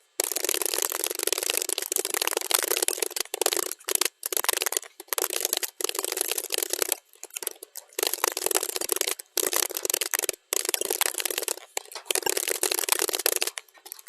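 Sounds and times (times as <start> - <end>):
keyboard typing: 0.0 - 14.0.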